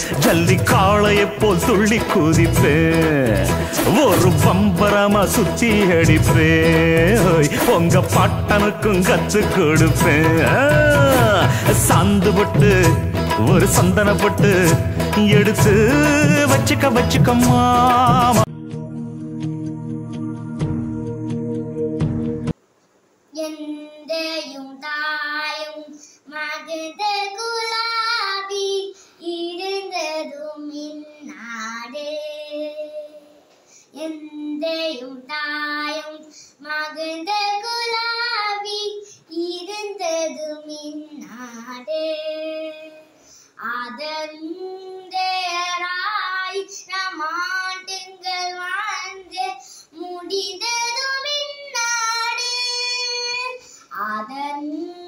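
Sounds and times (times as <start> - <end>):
girl singing unaccompanied: 0.0 - 18.5, 23.3 - 55.0.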